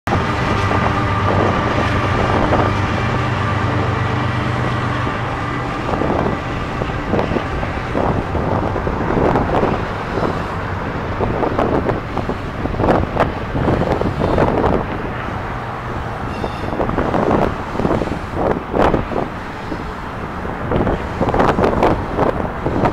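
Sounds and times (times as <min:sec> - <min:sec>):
diesel locomotive engine drone: 0:00.0 - 0:22.9.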